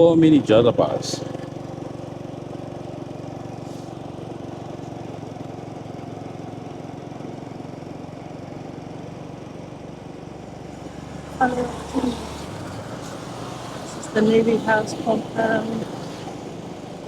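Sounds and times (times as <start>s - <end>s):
road and wind noise: 0.0s - 7.8s, 8.6s - 17.0s
small motorbike engine running: 0.0s - 17.0s.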